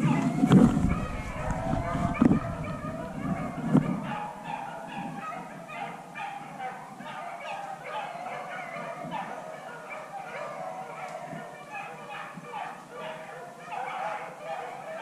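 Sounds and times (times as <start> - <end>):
dogs baying: 0.1 - 15.0.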